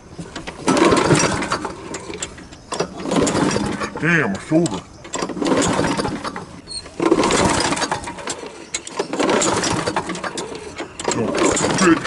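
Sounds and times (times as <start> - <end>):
lawn mower engine turning over: 0.0 - 12.0
recoil cord tugs: 0.1 - 12.0.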